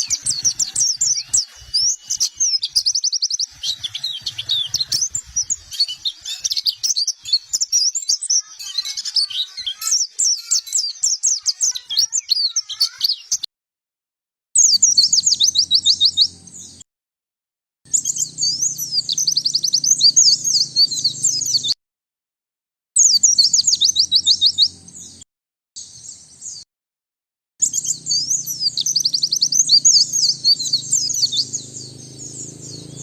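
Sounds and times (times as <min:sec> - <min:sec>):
bird chirps and trills: 0:00.0 - 0:13.5, 0:14.6 - 0:16.8, 0:17.9 - 0:21.8, 0:23.0 - 0:25.2, 0:27.6 - 0:33.0.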